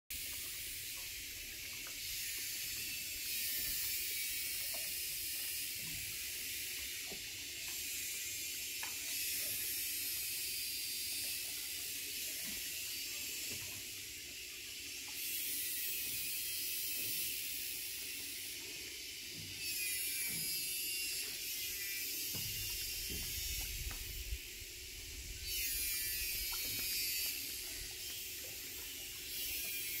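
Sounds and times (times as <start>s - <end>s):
steady high-pitched hiss: 0.1s - 30.0s.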